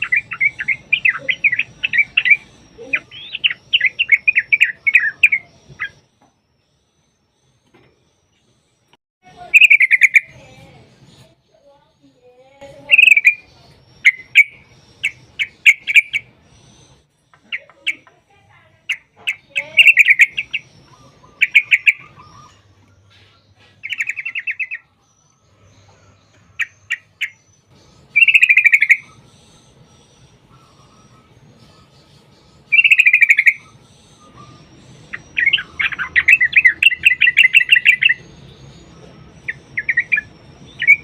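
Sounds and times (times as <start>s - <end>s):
bird chattering calls: 0.0s - 6.0s, 9.3s - 11.3s, 12.7s - 24.9s, 25.5s - 41.0s.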